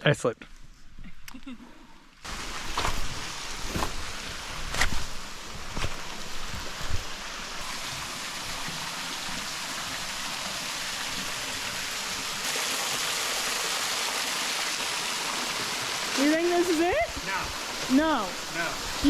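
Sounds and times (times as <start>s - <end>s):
creek water rushing: 2.2s - 19.0s.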